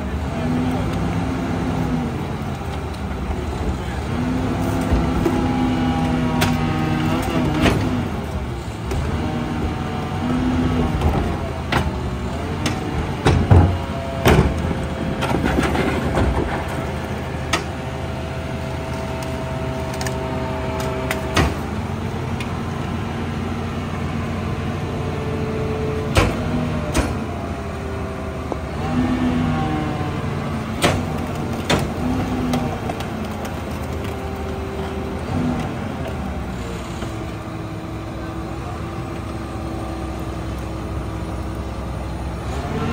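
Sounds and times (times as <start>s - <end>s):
garbage truck engine and hydraulics: 0.0s - 42.9s.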